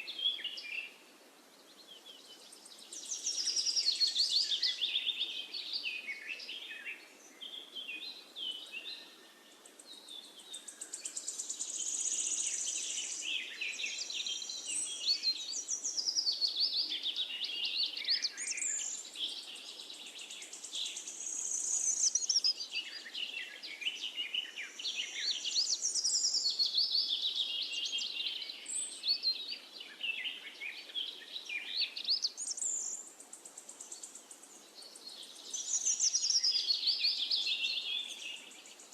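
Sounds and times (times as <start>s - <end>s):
faint steady hiss: 0.0s - 38.9s
songbirds singing and chirping: 0.0s - 38.9s.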